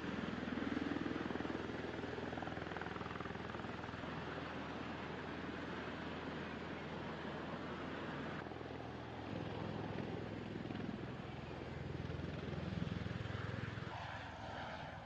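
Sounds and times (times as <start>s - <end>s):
aircraft rotors and engines droning: 0.0s - 15.0s.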